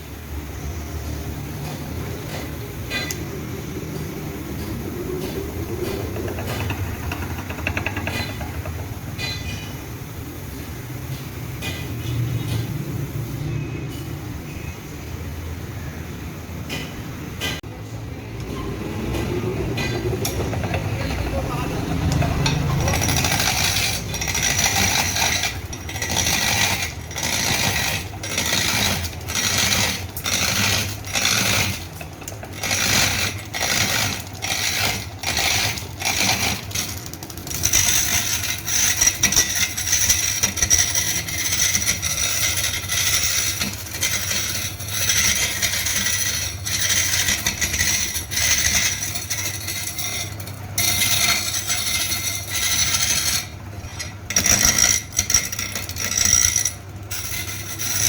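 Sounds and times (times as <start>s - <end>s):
factory machinery metallic clatter: 1.1s - 10.0s, 16.6s - 58.0s.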